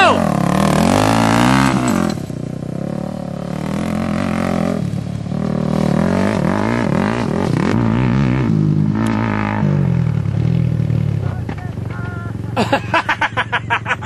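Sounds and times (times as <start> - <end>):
engine idling nearby: 0.0 - 8.1, 8.7 - 14.0
quad engine revving: 0.0 - 14.0.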